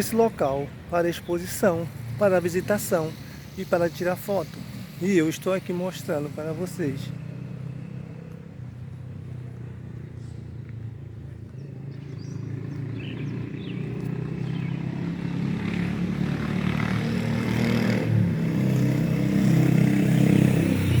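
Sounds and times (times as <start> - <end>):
vehicle engine approaching: 0.0 - 21.0.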